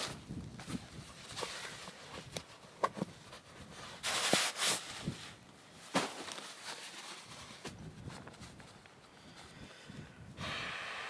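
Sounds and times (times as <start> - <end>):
loud rustling of gear: 0.0 - 9.5.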